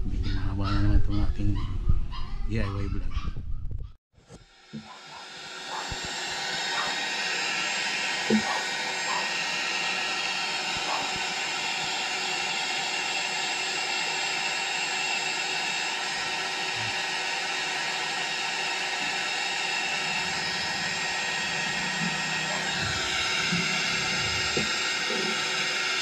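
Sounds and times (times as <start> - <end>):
small electric motor whirring: 4.2 - 26.0
thin whining tones: 4.3 - 26.0.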